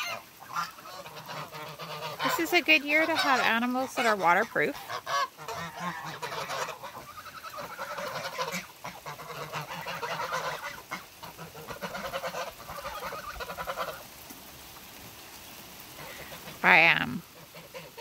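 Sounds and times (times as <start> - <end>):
waterfowl honking: 0.0 - 14.2, 16.0 - 18.0.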